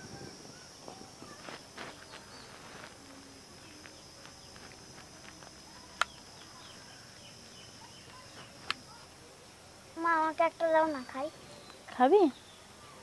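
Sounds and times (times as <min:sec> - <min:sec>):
faint bird chirps: 0:00.0 - 0:04.7, 0:05.6 - 0:13.0
high insect drone: 0:00.0 - 0:13.0.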